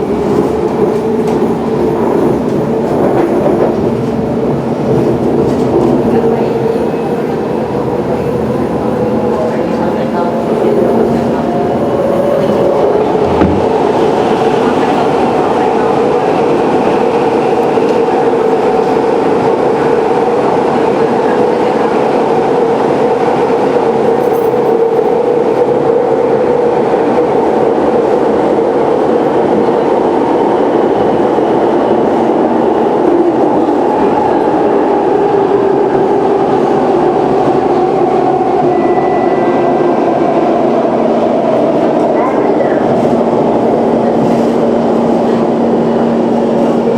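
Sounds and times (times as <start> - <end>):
metro train rumbling on rails: 0.0 - 46.9
train humming whine: 0.0 - 46.9.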